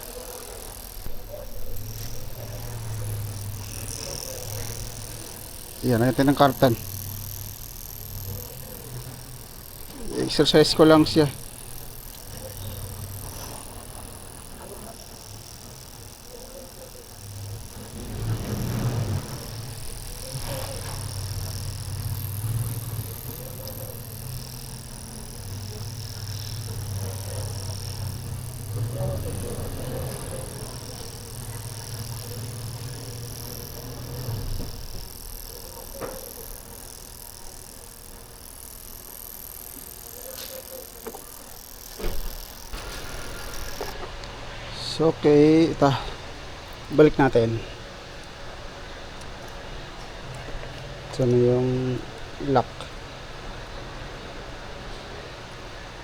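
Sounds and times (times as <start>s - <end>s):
fuel injector buzzing: 0.0s - 56.0s.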